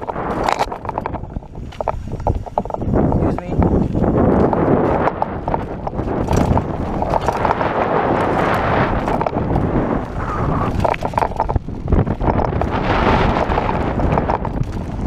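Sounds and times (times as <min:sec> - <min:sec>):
bike rattling over rocks: 0:00.0 - 0:15.0
tyres on loose gravel: 0:00.0 - 0:15.0.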